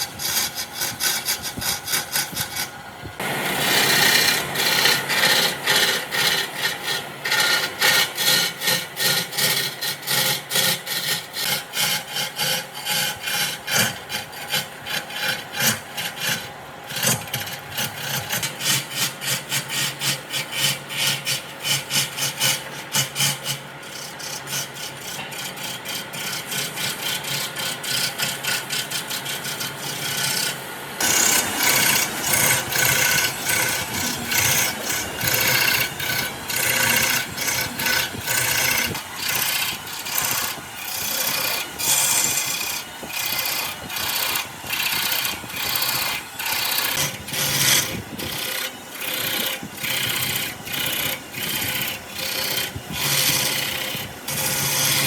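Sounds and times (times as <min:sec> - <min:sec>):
hand tool rasping on wood: 0:00.0 - 0:55.0.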